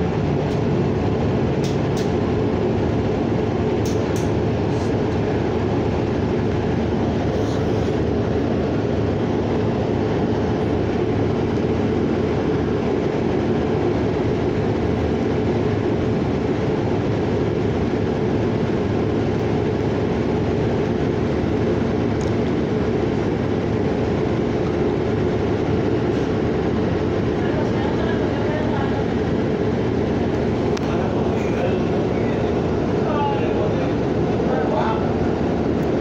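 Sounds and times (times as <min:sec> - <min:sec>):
bus engine drone: 0:00.0 - 0:36.0
road rumble: 0:00.0 - 0:36.0.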